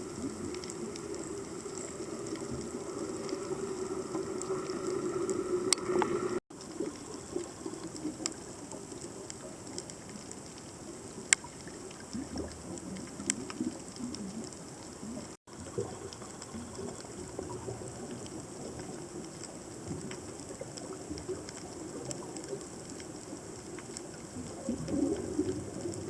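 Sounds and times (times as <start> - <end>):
underwater low hum and hiss: 0.0 - 26.0.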